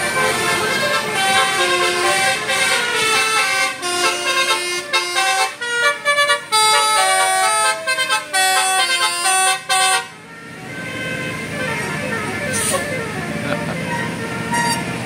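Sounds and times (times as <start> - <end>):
musical bus horn tune: 0.0 - 15.0.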